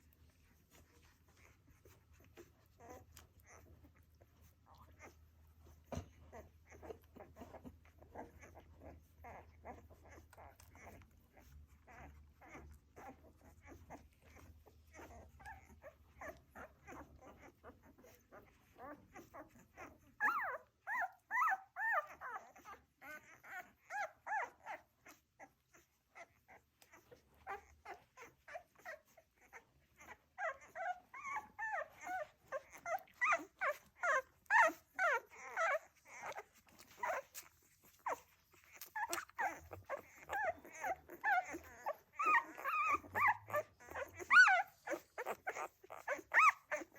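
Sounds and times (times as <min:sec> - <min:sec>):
puppies suckling clicks: 0:00.0 - 0:46.9
puppy whimpering squeals: 0:00.0 - 0:46.9.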